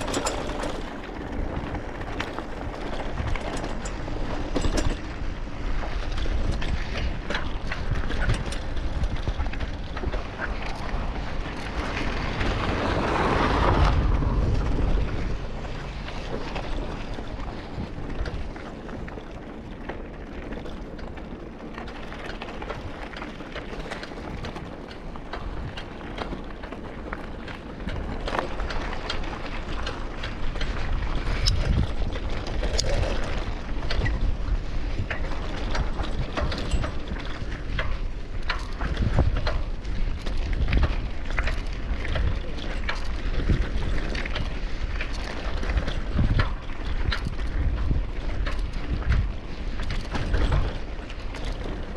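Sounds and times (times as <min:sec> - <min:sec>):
bicycle frame rattling: 0:00.0 - 0:51.9
wind buffeting microphone: 0:00.0 - 0:51.9.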